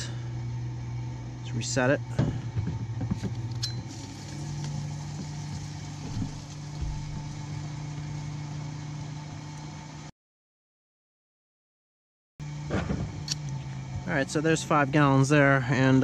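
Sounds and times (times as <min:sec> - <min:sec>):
fuel pump humming: 0:00.0 - 0:09.8, 0:12.4 - 0:16.0.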